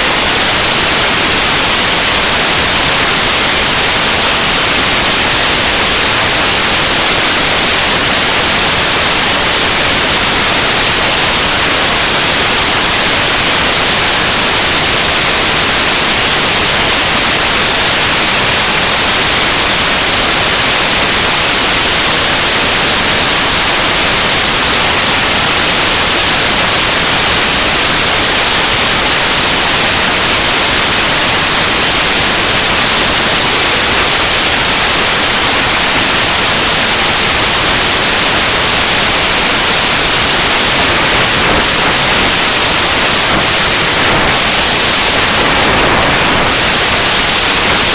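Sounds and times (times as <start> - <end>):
static hiss: 0.0 - 47.9.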